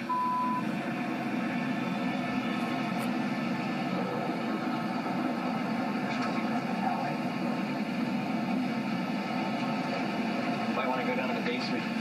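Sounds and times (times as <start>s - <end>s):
tornado wind through tv speaker: 0.6s - 12.0s.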